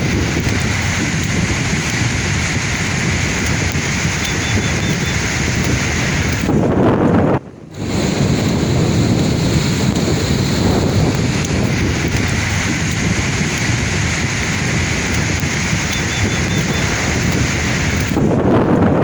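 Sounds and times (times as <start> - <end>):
sea waves breaking: 0.0 - 19.0
wind buffeting microphone: 0.0 - 19.0.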